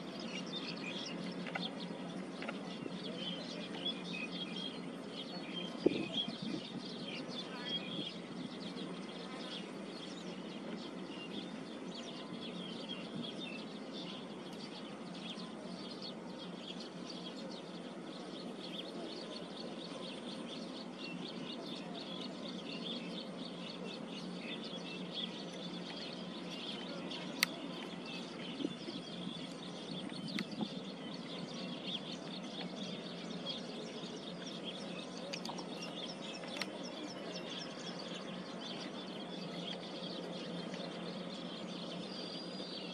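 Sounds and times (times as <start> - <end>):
faint dense chirping: 0.0 - 42.9.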